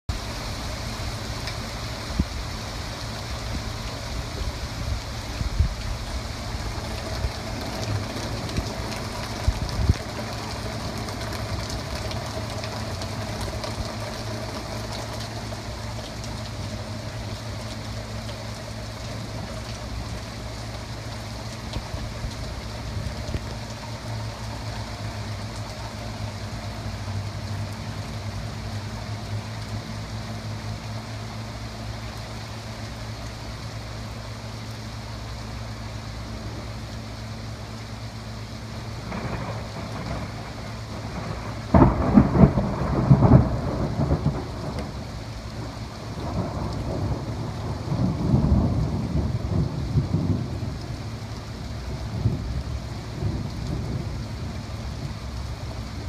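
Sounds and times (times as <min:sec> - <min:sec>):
heavy rain pouring: 0:00.1 - 0:56.0.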